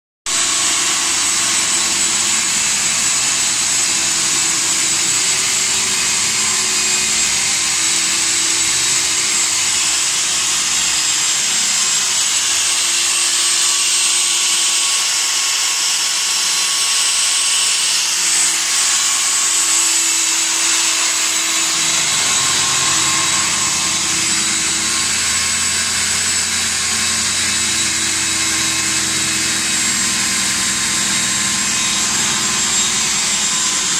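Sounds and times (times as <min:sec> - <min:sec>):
core drill boring through concrete: 0:00.3 - 0:33.9.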